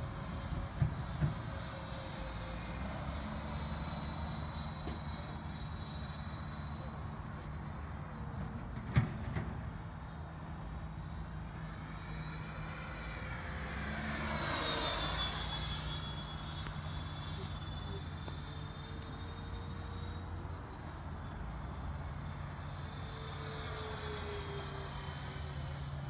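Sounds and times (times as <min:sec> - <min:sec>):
electric ducted fans whining: 0:00.0 - 0:26.0.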